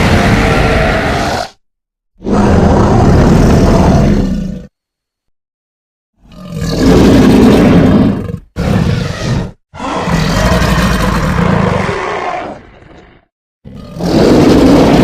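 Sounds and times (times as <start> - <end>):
dinosaur roar: 0.0 - 1.6, 2.2 - 4.7, 6.2 - 15.0.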